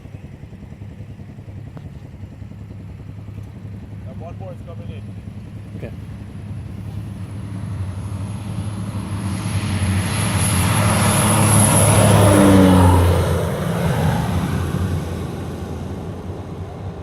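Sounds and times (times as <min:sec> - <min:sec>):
high turbine whine: 0:00.0 - 0:17.0
turboprop plane passing: 0:00.0 - 0:17.0.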